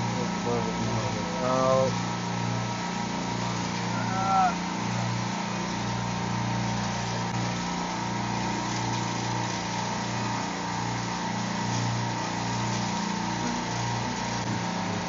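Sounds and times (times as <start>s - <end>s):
high compressor whine: 0.0s - 15.0s
low machine hum: 0.0s - 15.0s.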